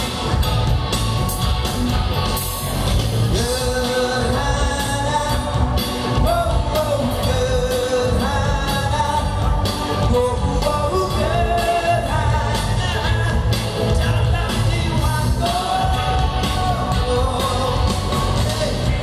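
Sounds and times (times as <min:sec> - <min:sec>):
heavy bass: 0:00.0 - 0:19.0
rock band playing: 0:00.0 - 0:19.0
man singing into microphone: 0:03.3 - 0:19.0.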